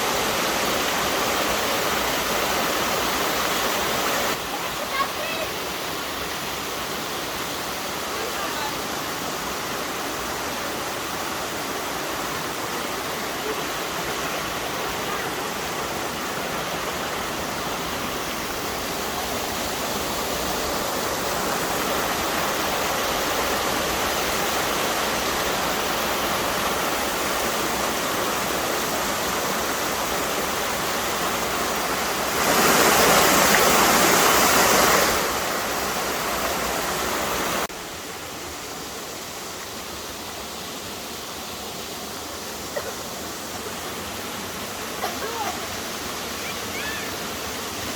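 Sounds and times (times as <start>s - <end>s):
water rushing over waterfall: 0.0s - 47.9s.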